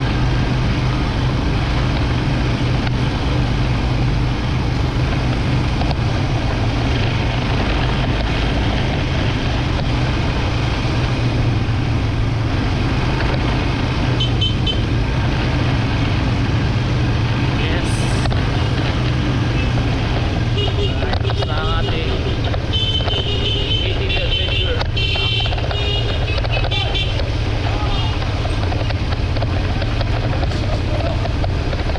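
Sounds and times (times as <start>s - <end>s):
atv engine running: 0.0s - 31.9s
road and wind noise: 0.0s - 31.9s.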